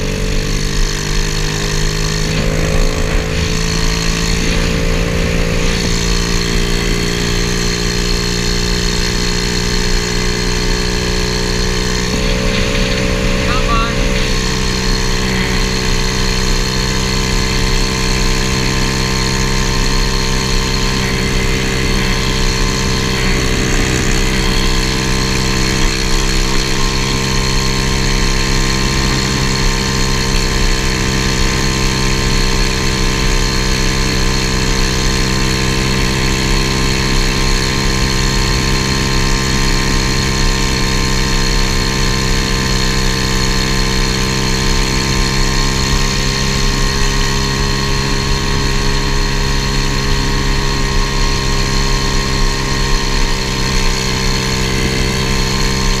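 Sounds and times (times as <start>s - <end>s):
small engine running steadily: 0.0s - 56.0s.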